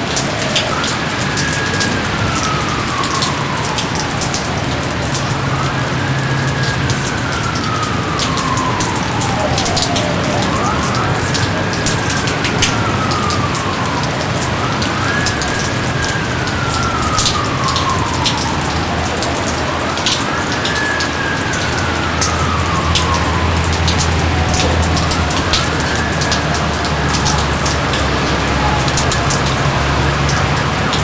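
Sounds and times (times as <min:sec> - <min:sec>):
heavy rain: 0:00.0 - 0:31.0
rain drops striking close by: 0:00.0 - 0:31.0.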